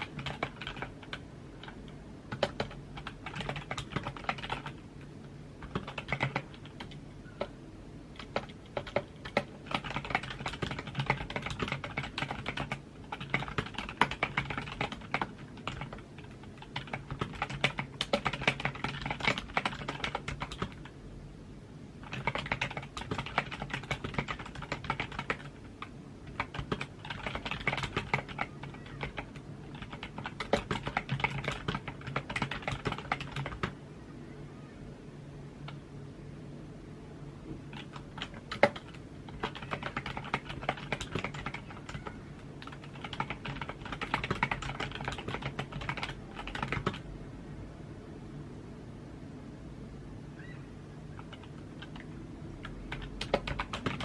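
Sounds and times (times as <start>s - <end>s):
typing on computer keyboard: 0.0s - 21.0s, 22.0s - 33.8s, 37.7s - 47.1s, 51.2s - 54.0s.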